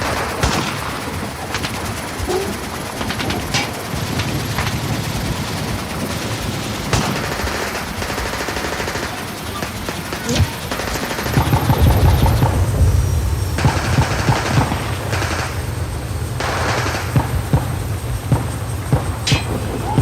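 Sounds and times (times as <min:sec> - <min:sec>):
rapid automatic gunfire: 0:00.0 - 0:20.0.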